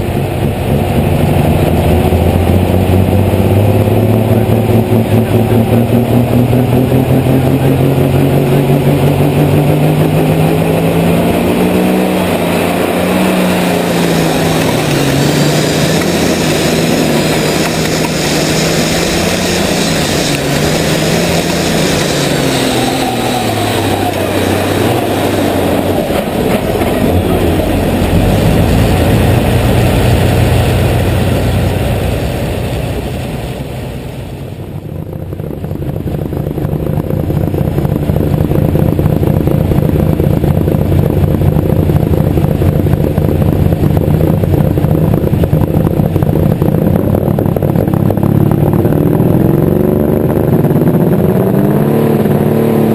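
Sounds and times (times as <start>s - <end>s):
tractor engine under load: 0.0s - 52.9s.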